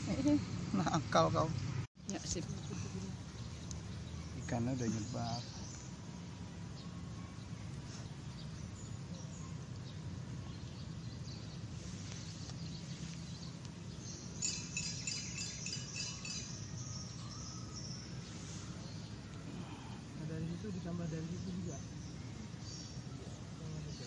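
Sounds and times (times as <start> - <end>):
low outdoor hum: 0.0 - 24.0
small birds chirping: 0.0 - 24.0.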